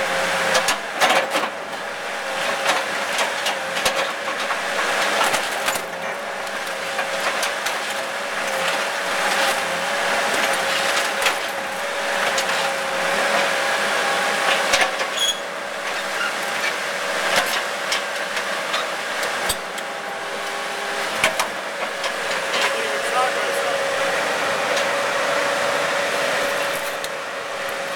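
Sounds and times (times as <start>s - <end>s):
excavator engine whining: 0.0s - 27.9s.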